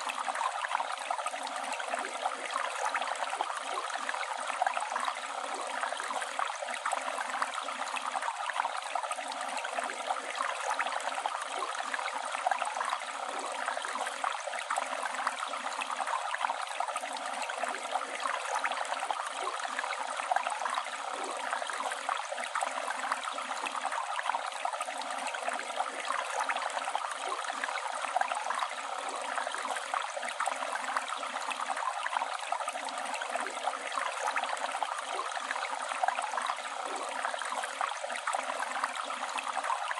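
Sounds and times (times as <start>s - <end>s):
river water over stones: 0.0s - 39.9s.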